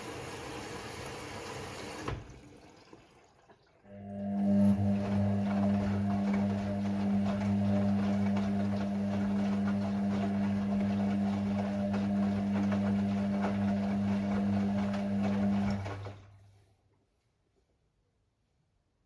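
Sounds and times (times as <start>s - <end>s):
washing machine humming: 0.0s - 16.6s.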